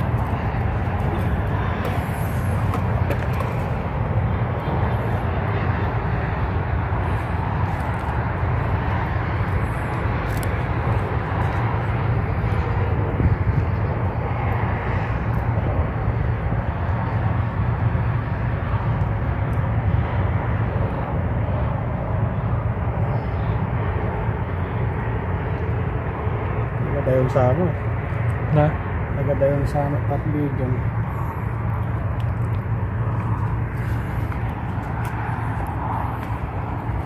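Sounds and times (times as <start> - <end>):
low outdoor background rumble: 0.0 - 37.0.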